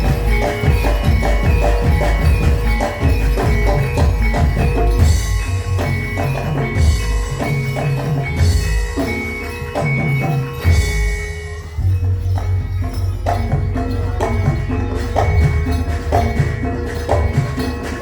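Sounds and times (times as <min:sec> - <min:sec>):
metal keyed percussion ringing: 0:00.0 - 0:18.0.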